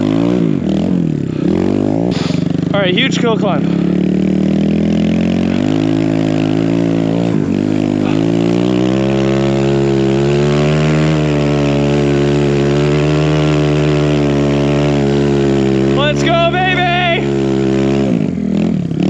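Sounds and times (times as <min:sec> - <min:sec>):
dirt bike engine under throttle: 0:00.0 - 0:19.0.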